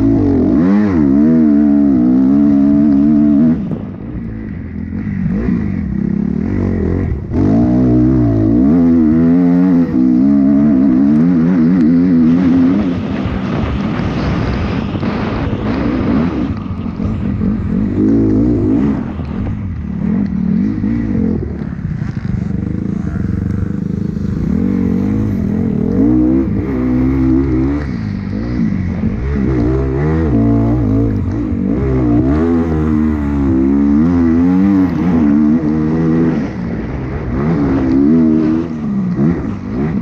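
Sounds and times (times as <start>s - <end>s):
motocross bike engine revving: 0.0s - 4.0s, 4.8s - 40.0s.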